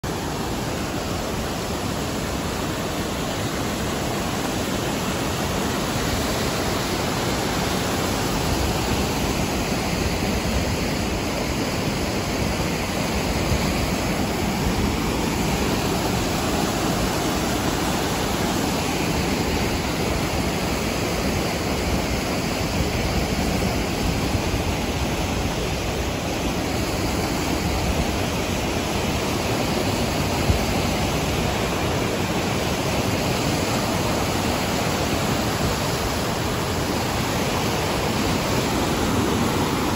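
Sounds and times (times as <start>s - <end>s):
creek rushing over boulders: 0.0s - 39.9s.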